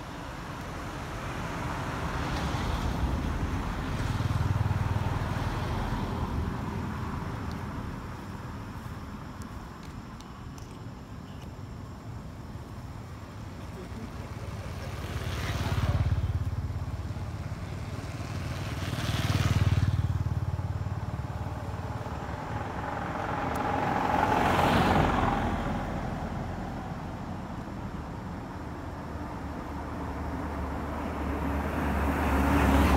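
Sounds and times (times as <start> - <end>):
motorbikes and vans driving past: 0.0 - 8.6, 13.2 - 32.9.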